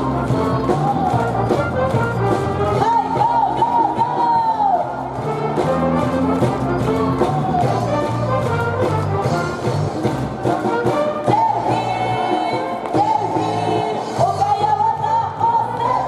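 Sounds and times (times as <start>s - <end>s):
brass band music with trumpets: 0.0s - 16.0s.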